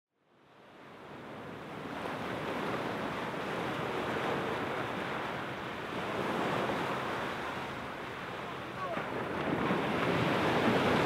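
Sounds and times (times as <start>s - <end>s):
gentle surf washing on sand: 0.4s - 11.0s.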